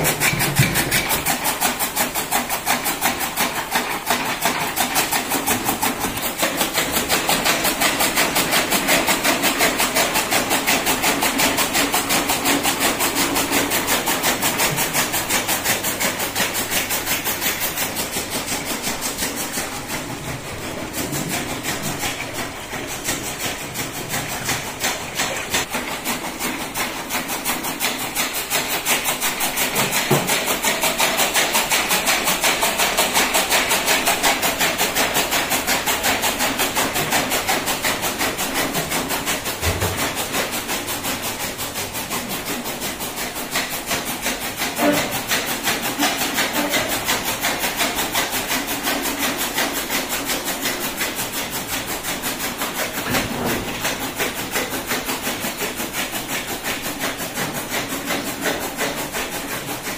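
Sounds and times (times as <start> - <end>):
chaff cutter chopping fodder: 0.0 - 59.9.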